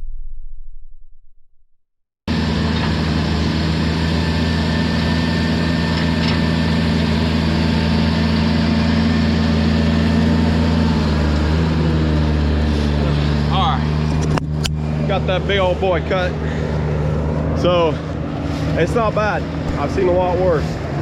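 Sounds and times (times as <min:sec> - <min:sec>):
heavy equipment engine idling: 0:02.3 - 0:21.0.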